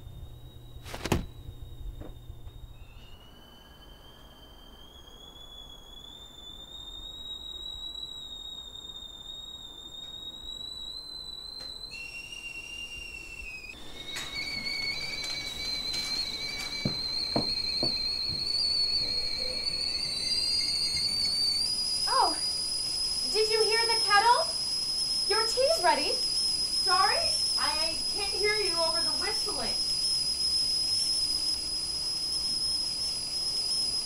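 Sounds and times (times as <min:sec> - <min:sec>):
kettle whistling: 0:00.0 - 0:34.0.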